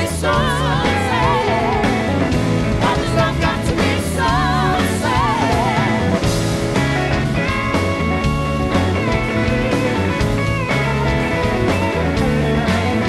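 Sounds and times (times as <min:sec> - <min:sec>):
lead guitar with wide vibrato: 0:00.0 - 0:13.0
rock band playing: 0:00.0 - 0:13.0.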